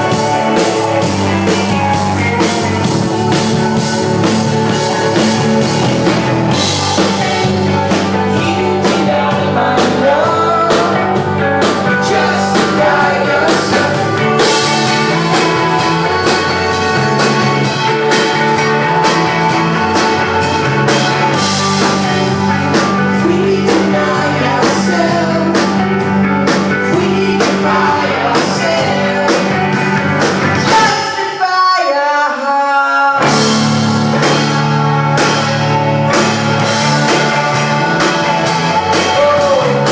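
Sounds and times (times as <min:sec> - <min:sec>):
drum kit: 0:00.0 - 0:31.4, 0:33.1 - 0:39.9
electric guitars: 0:00.0 - 0:31.9, 0:33.0 - 0:39.9
person singing lead vocal: 0:00.0 - 0:39.9.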